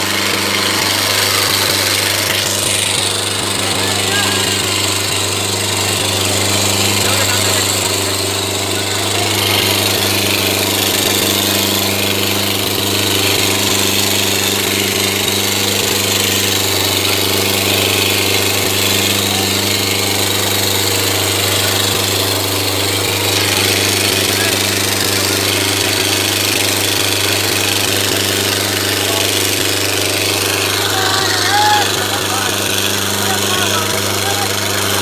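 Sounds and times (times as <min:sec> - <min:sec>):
tractor diesel engine droning: 0:00.0 - 0:35.0.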